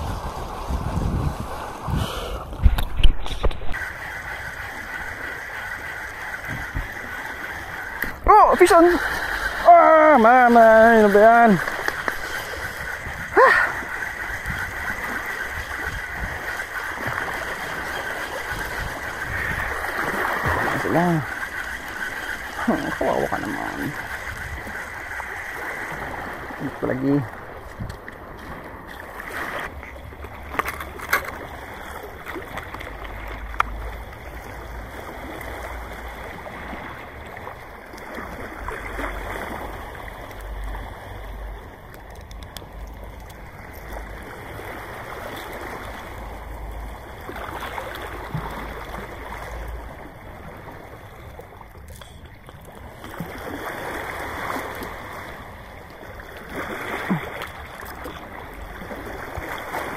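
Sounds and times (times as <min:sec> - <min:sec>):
waves lapping over rocks: 0:00.0 - 0:59.9.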